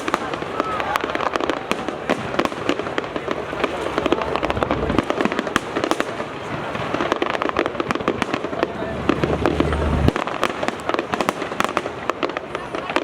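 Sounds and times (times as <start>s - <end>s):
fireworks bangs and crackles: 0.0s - 13.0s
low firework boom: 0.6s - 11.1s.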